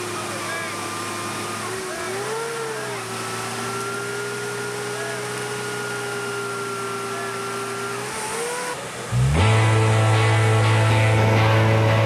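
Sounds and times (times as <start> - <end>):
jeep engine running: 0.0 - 12.0.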